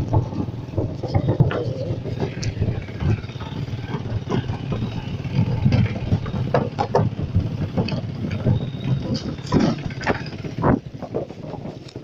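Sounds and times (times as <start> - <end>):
sharp knocks on wooden planks: 0.0 - 11.3
motorcycle engine running: 0.0 - 12.0.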